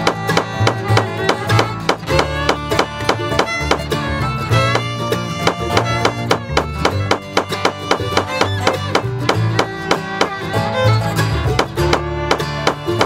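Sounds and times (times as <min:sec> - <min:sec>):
string music with quick beat: 0:00.0 - 0:13.0.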